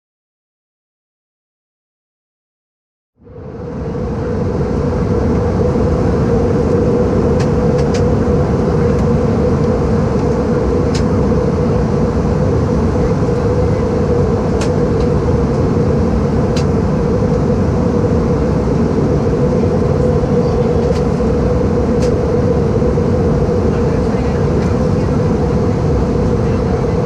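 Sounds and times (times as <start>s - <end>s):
airflow rush in cabin: 3.2s - 27.0s
constant hum: 3.2s - 27.0s
jet engines droning: 3.2s - 27.0s.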